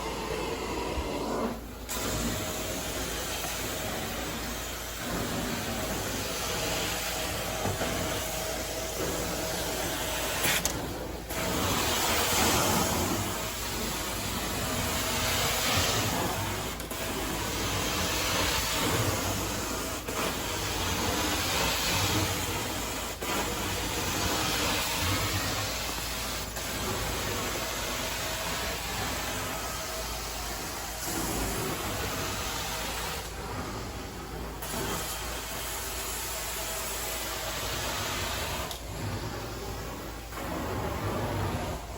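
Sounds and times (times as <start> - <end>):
carpet cleaning wand hissing: 0.0 - 41.9.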